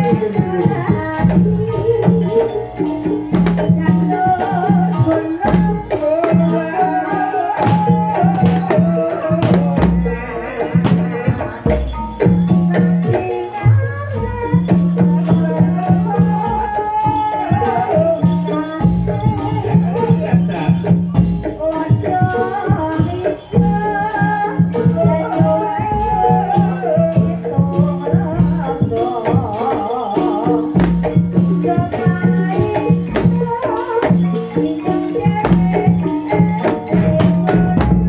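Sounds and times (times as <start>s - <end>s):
hand drums struck rapidly: 0.0s - 38.0s
wavering melody line: 0.0s - 38.0s.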